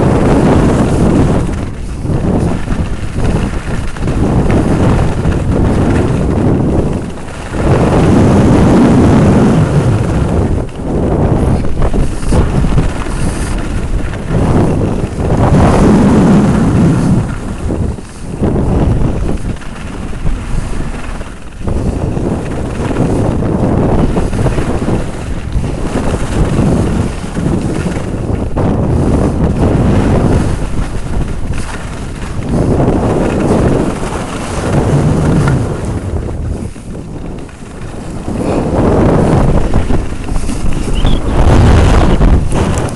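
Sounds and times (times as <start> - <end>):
snowboard edges carving snow: 0.0 - 42.9
wind rushing over microphone: 0.0 - 42.9.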